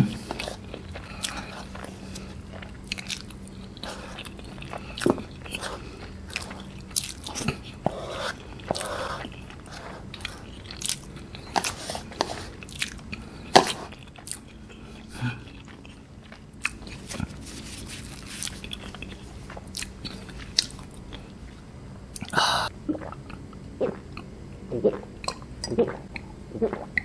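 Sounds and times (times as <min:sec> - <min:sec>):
chewing noodles: 0:00.0 - 0:22.4.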